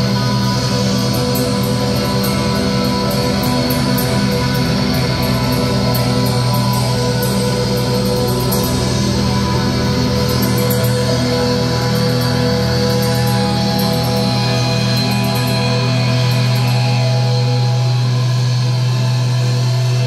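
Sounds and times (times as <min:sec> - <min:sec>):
black metal band playing live: 0:00.0 - 0:20.0.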